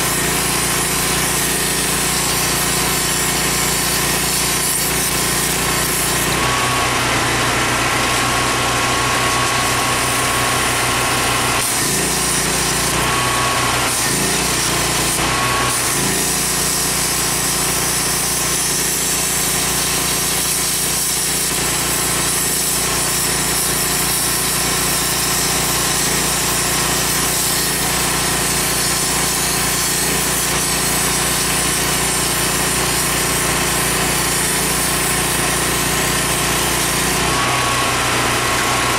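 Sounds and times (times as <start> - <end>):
grinder cutting sheet metal: 0.0 - 38.9.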